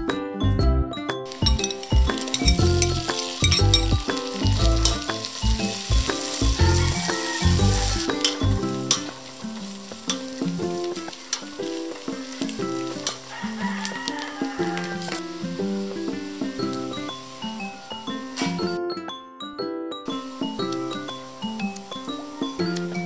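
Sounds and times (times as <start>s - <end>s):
background music: 0.0s - 23.0s
mushrooms sizzling in butter: 1.3s - 18.7s, 20.1s - 23.0s.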